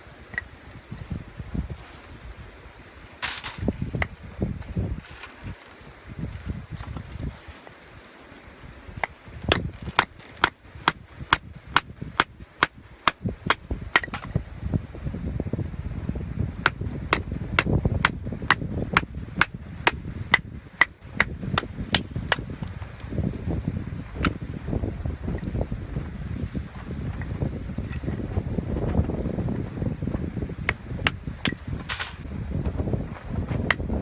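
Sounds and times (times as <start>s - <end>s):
low wind rumble: 0.0s - 34.0s.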